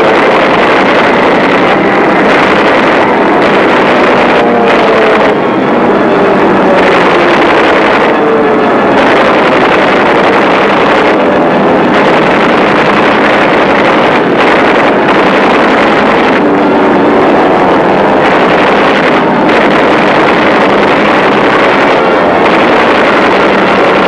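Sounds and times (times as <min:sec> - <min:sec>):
piston aircraft engines droning: 0:00.0 - 0:24.0.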